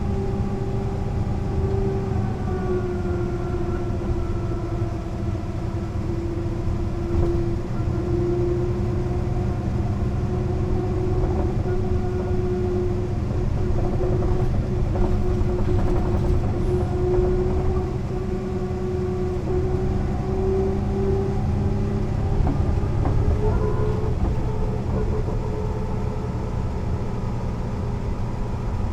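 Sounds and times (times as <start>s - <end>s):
bus engine whining drone: 0.0s - 28.9s.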